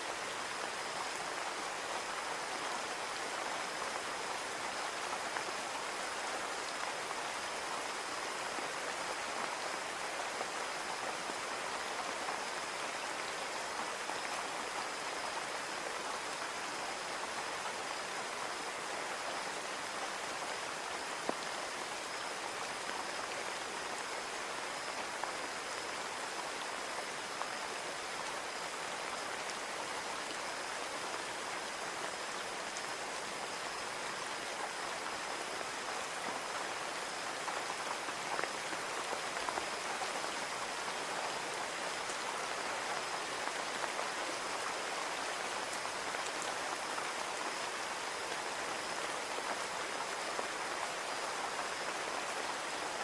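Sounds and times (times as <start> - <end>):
rain on a window: 0.1 - 53.0.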